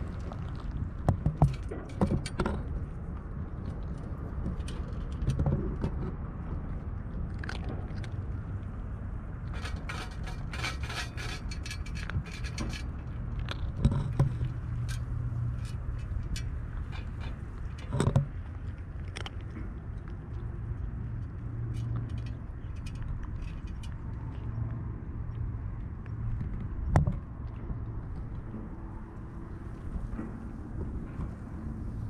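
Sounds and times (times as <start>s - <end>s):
cat crunching kibble: 0.0s - 30.0s.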